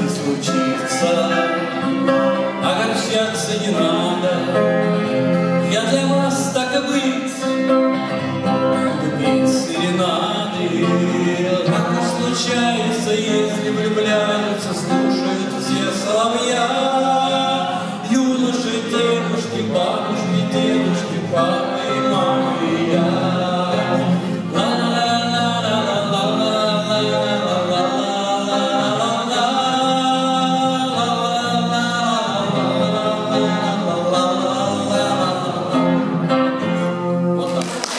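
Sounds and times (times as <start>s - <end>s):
person singing romance song: 0.0s - 37.9s.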